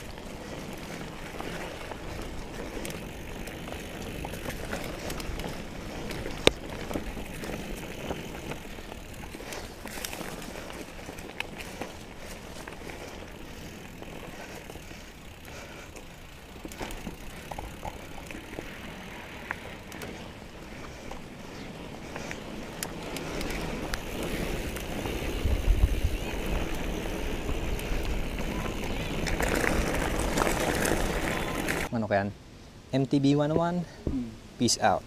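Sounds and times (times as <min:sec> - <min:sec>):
bike clicks and rattles: 0:00.0 - 0:31.9
bike tyres on dirt trail: 0:00.0 - 0:32.0.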